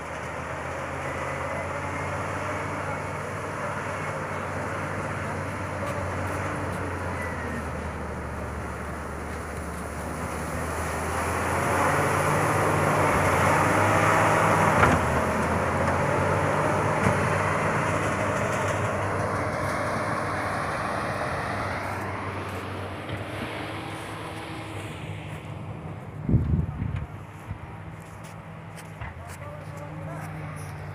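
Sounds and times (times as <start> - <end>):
bulldozer diesel engine: 0.0 - 30.9.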